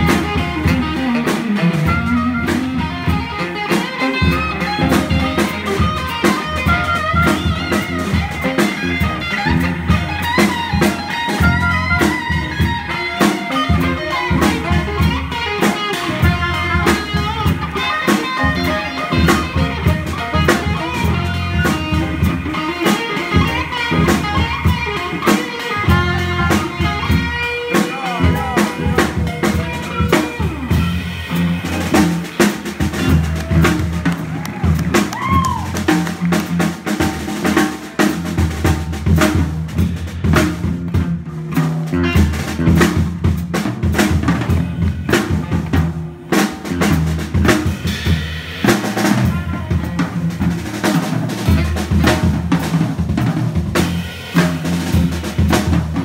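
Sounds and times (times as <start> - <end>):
bass line: 0.0 - 56.0
drum kit playing: 0.0 - 56.0
electric guitar: 0.0 - 56.0.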